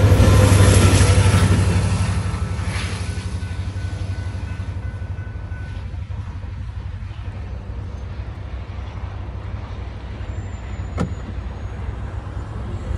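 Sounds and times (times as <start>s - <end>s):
freight train rumble: 0.0s - 12.9s.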